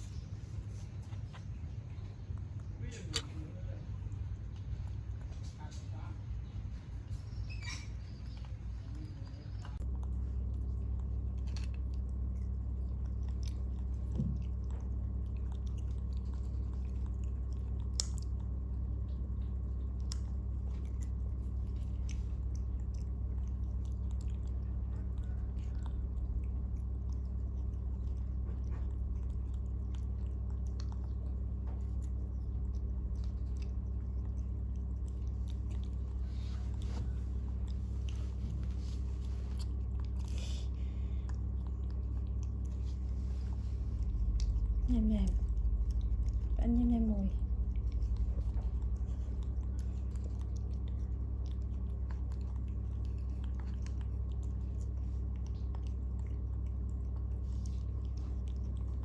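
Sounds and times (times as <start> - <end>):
monkeys chewing and smacking: 0.0 - 59.0
steady low hum: 0.0 - 59.0.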